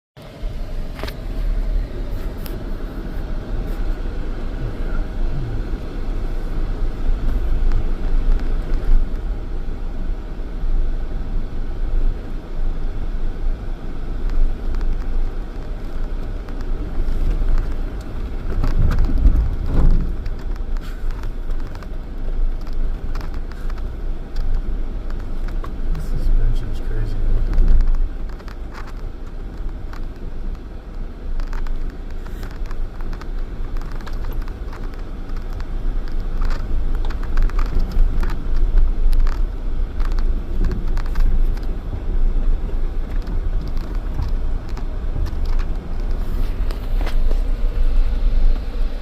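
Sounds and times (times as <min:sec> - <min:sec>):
off-road vehicle rumble: 0:00.2 - 0:49.0.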